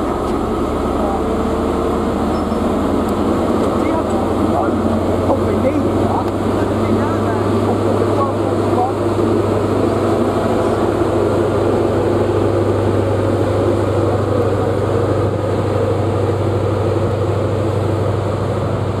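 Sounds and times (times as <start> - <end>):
diesel train engine drone: 0.0 - 19.0.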